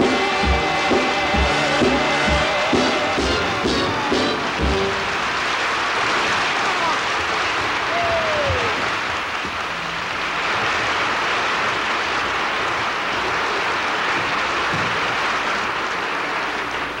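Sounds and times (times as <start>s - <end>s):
audience applause: 0.0s - 17.0s.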